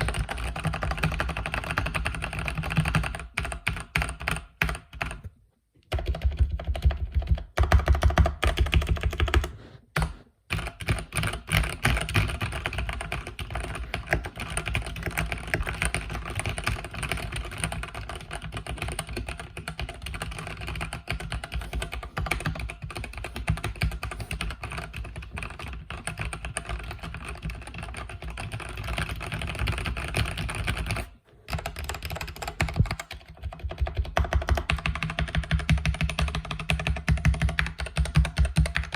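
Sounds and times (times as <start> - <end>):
fast mechanical keyboard typing: 0.0 - 5.2, 5.9 - 38.9.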